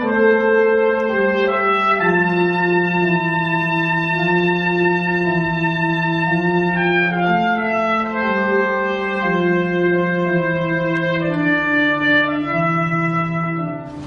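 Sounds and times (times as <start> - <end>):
orchestral brass chords: 0.0 - 14.0.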